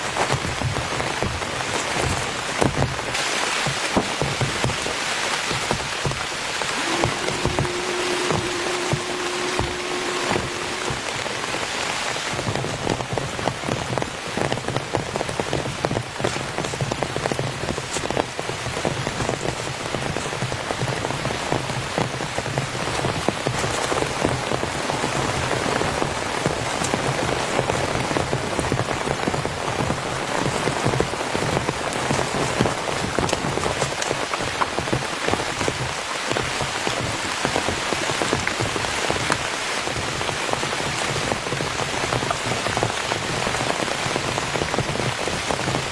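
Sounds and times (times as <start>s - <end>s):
heavy rain on a tent: 0.0s - 45.9s.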